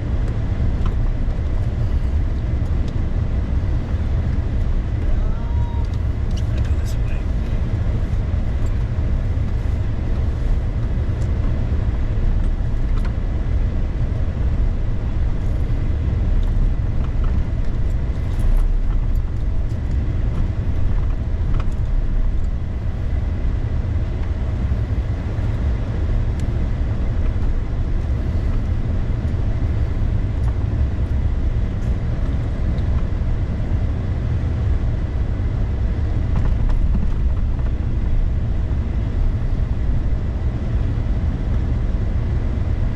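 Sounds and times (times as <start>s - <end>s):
truck engine and tyre rumble: 0.0s - 42.9s.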